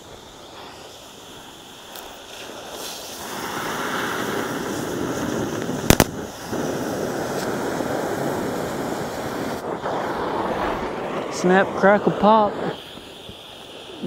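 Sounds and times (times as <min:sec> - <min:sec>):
cutting torch hissing: 0:00.0 - 0:14.0
torch popping: 0:00.0 - 0:14.0.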